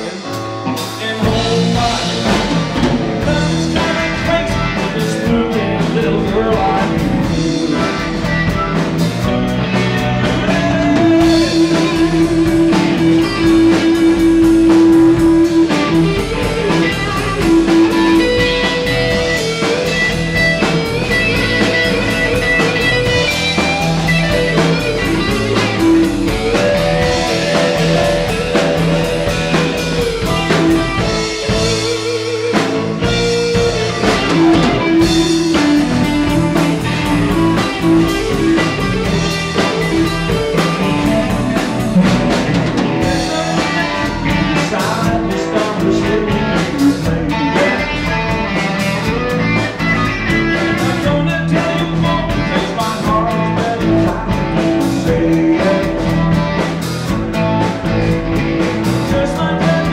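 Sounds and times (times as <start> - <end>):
bass guitar: 0.0 - 59.9
drum kit: 0.0 - 59.9
electric guitar: 0.0 - 59.9
keyboard: 0.0 - 59.9.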